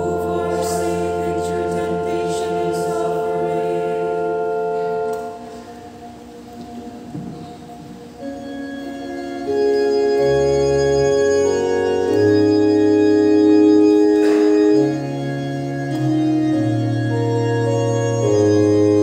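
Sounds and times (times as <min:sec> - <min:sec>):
organ playing slow chords: 0:00.0 - 0:19.0.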